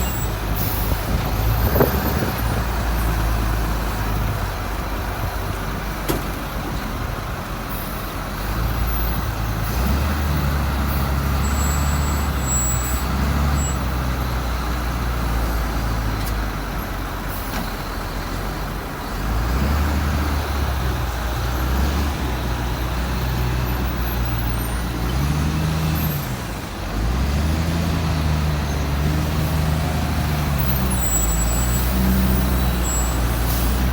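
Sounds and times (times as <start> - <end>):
truck diesel engine running: 0.0 - 33.9
wheel loader diesel engine revving: 0.0 - 33.9.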